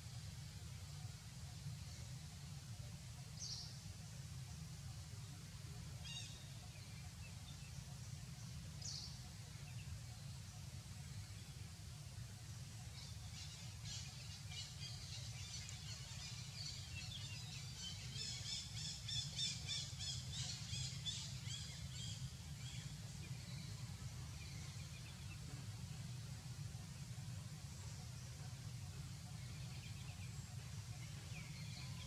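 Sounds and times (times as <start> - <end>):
low rumble of outdoor ambience: 0.0 - 32.0.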